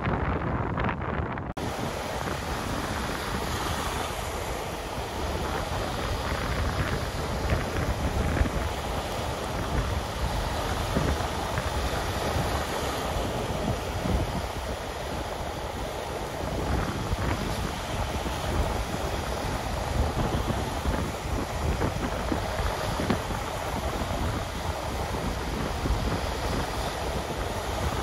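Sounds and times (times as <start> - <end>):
wind on microphone: 0.0 - 28.0
small waves washing on beach: 1.6 - 28.0.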